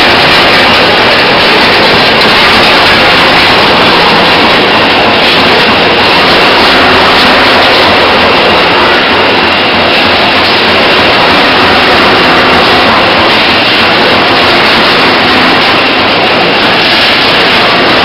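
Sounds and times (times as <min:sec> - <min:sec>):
industrial crusher machinery din: 0:00.0 - 0:18.0
steady high whine: 0:00.0 - 0:18.0.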